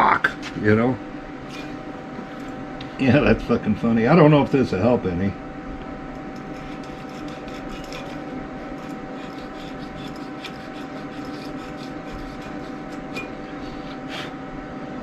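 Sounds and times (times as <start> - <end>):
welder humming and crackling: 0.0 - 15.0.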